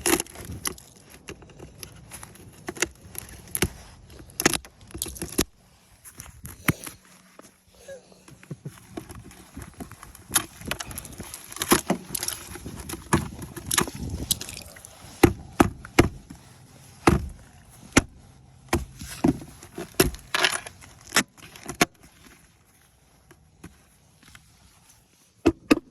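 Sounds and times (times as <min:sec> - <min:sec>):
ice scraping: 0:00.0 - 0:25.4.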